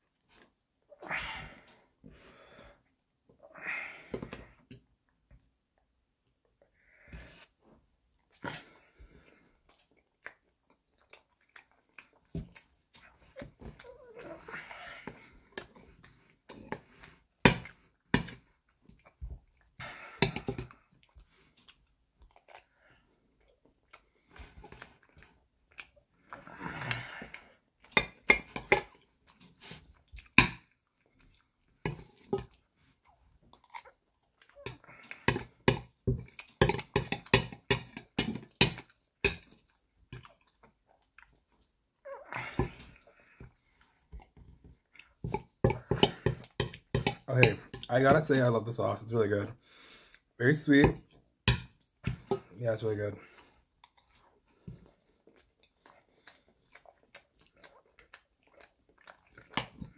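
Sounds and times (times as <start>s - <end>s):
wet chewing and mouth smacks: 8.1s - 48.0s, 50.0s - 52.6s, 53.3s - 59.9s.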